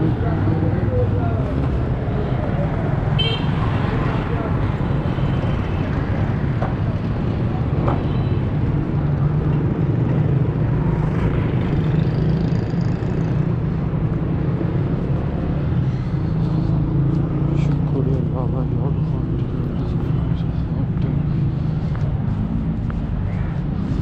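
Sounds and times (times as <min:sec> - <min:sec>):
low traffic rumble: 0:00.0 - 0:24.0
motorcycles passing: 0:00.0 - 0:24.0.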